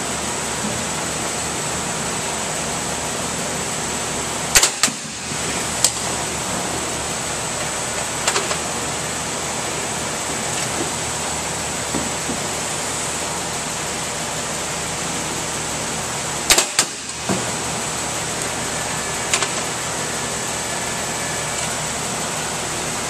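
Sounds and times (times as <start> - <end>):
steady loud hiss: 0.0 - 23.0.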